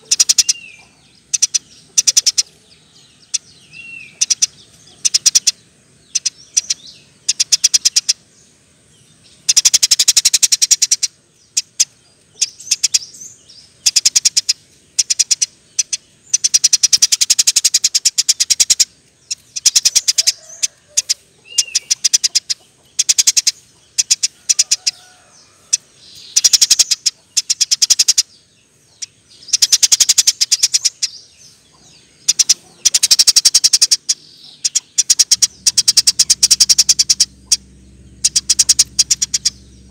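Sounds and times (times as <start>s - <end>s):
sparrow chirping rapidly: 0.0s - 39.9s.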